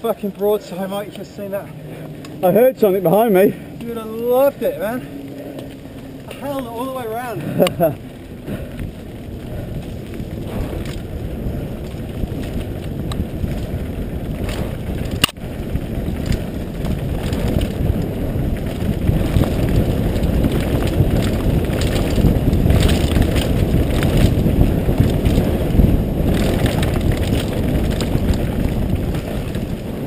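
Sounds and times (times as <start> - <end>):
bike tyres rumbling over dirt: 0.0 - 30.0
wind rushing over microphone: 0.0 - 30.0
bike clicks and knock: 5.4 - 30.0.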